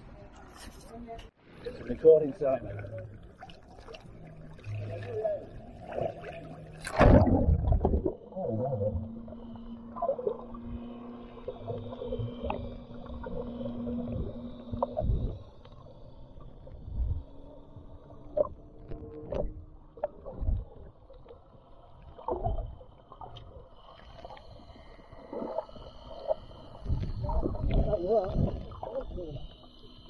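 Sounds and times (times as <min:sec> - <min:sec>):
underwater motor drone: 0:00.0 - 0:30.0
water swishing against camera: 0:00.0 - 0:30.0.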